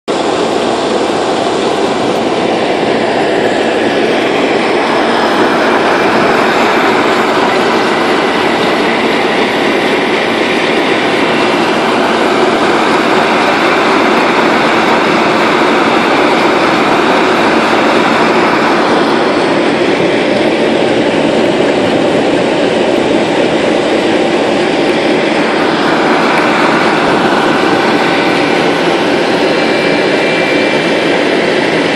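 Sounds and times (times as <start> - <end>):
paving machinery engine running: 0.1 - 31.9.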